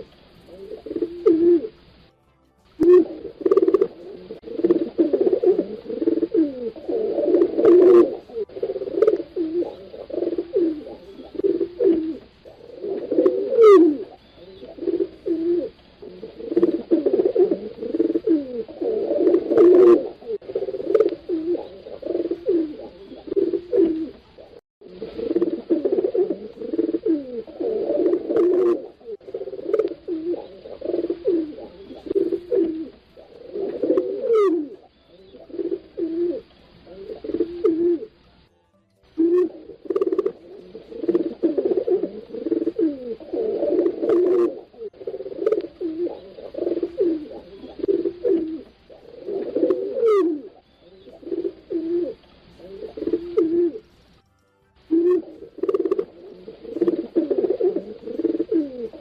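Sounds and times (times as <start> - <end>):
pigeons cooing: 0.0 - 2.0, 2.8 - 38.4, 39.2 - 54.2, 54.9 - 59.0.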